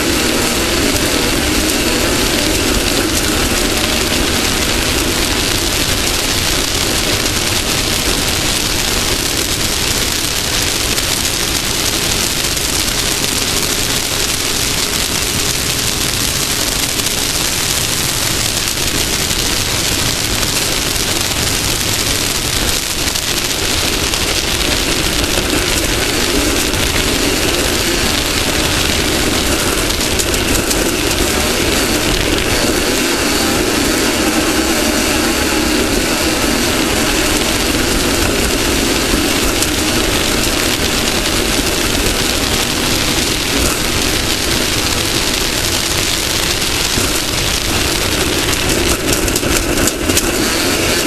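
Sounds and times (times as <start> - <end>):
race car engine drone: 0.0 - 51.0
wind rush: 0.0 - 51.0.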